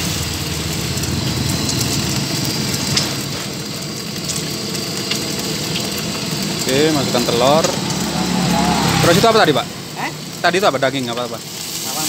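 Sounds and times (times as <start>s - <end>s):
egg frying in a wok: 0.0s - 12.0s
gas burner roaring: 0.0s - 12.0s.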